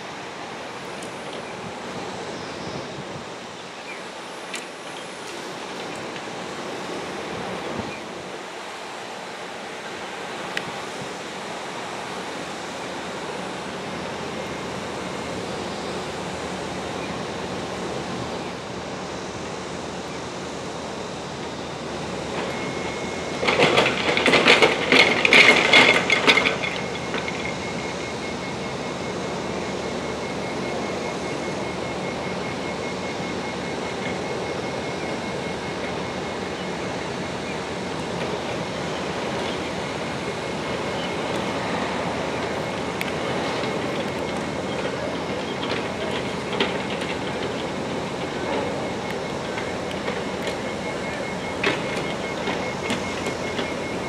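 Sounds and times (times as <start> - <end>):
train moving slowly: 0.0 - 54.0.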